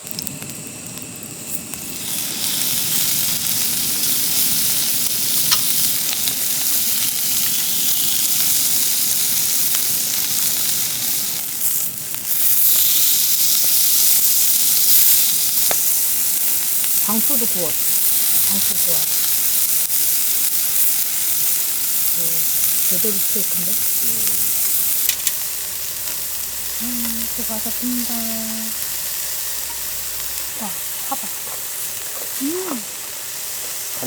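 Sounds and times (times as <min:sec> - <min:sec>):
beef sizzling on a griddle: 0:00.0 - 0:34.0.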